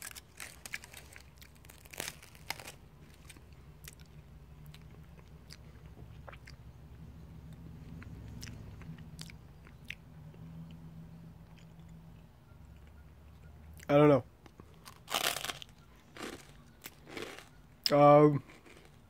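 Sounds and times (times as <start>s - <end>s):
chewing and crunching waffle: 0.0s - 10.8s, 11.4s - 12.0s, 12.8s - 19.0s
low steady hum: 0.0s - 19.0s.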